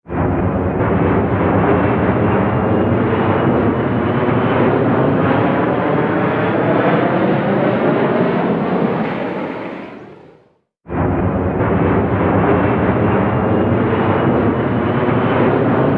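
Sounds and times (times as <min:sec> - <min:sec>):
jet engines roaring at takeoff: 0:00.0 - 0:15.9.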